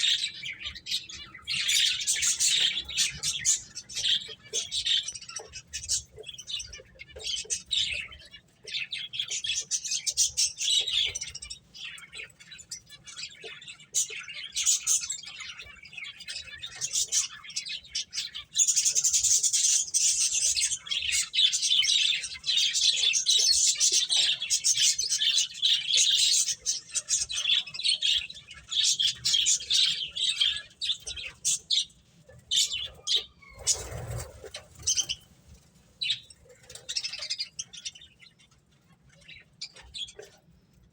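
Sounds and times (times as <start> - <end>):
finches chirping: 0.0 - 35.3.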